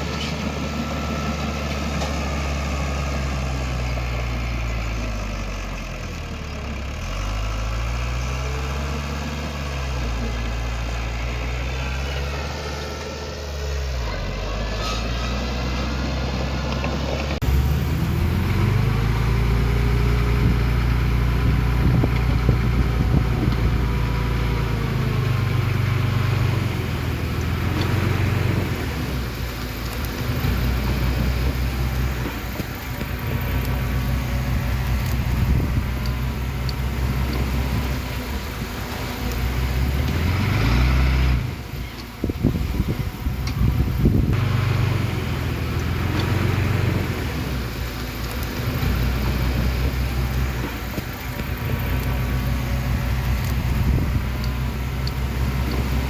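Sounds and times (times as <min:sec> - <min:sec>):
heavy diesel engine throttling: 0:00.0 - 0:56.0.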